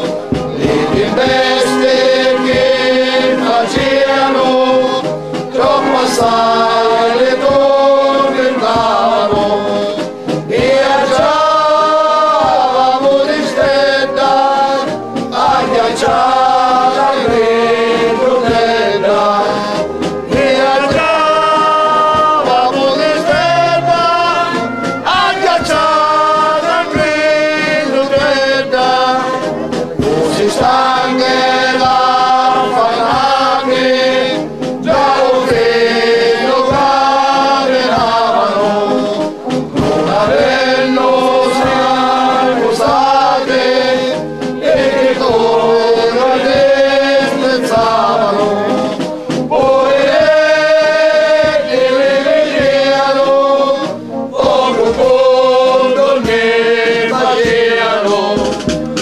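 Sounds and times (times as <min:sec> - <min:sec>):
men chanting together: 0:00.0 - 0:58.7.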